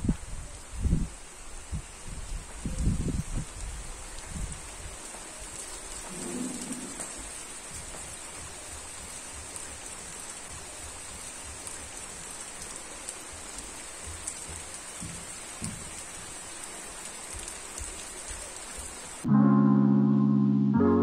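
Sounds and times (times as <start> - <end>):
rain hissing: 0.0 - 19.3.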